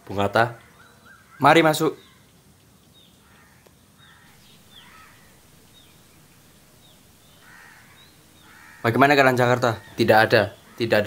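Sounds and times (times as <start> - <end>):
lower bird calls: 0.4 - 11.0
high falling bird chirps: 0.5 - 11.0.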